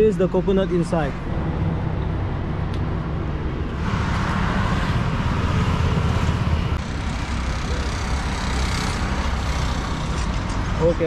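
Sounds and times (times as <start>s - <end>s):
road traffic rumble: 0.0s - 11.0s
vehicle passing: 1.0s - 11.0s.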